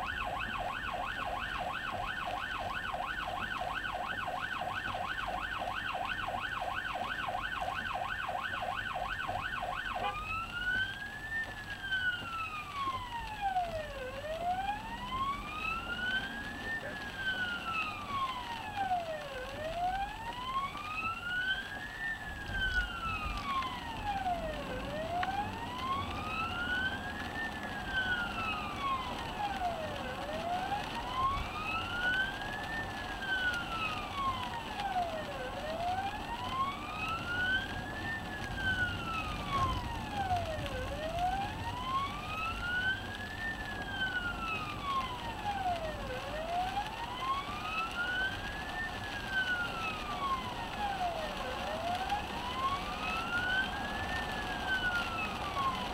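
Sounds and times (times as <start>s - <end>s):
emergency siren wailing: 0.0s - 55.9s
low road noise: 0.0s - 55.9s.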